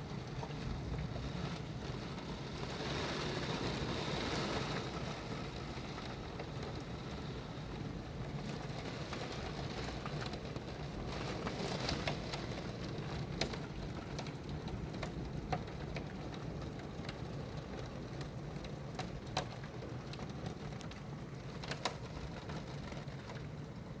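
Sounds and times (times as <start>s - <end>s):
rain hissing: 0.0s - 24.0s
sharp hail ticks: 0.1s - 24.0s.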